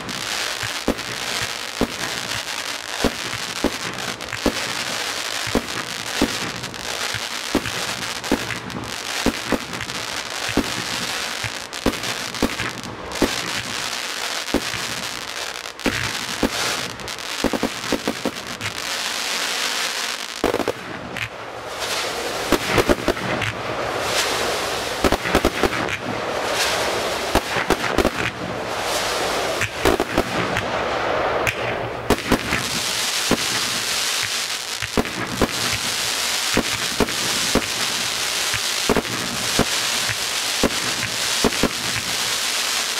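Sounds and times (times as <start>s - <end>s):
fireworks bangs: 0.0s - 42.9s
fireworks crackling and hissing: 0.0s - 42.9s.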